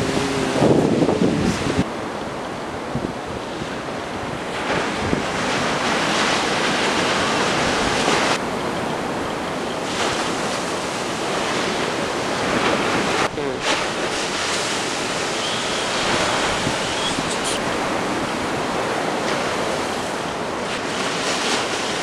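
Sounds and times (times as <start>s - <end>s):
surf rushing: 0.0s - 22.0s
wind noise: 0.0s - 22.0s.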